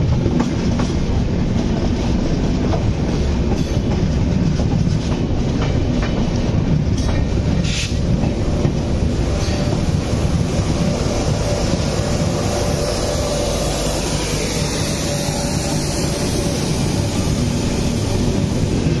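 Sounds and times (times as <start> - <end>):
freight train passing: 0.0 - 19.0
wheels rumbling on rails: 0.0 - 19.0.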